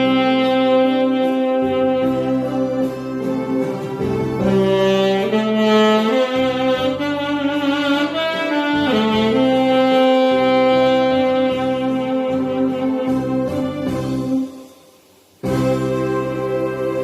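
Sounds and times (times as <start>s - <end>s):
backing track: 0.0s - 17.0s
saxophone slow melody: 0.0s - 17.0s.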